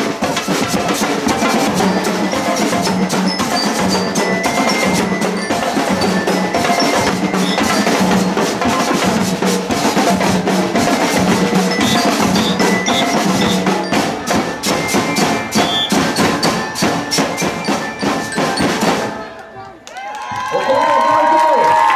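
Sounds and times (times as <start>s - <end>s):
snare and bass drums: 0.0s - 19.3s
bell lyre melody: 0.5s - 19.5s.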